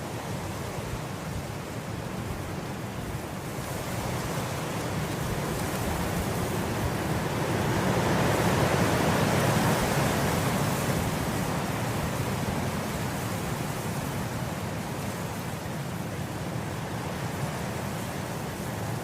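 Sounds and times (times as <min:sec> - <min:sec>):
wind blowing through grass: 0:00.0 - 0:19.0.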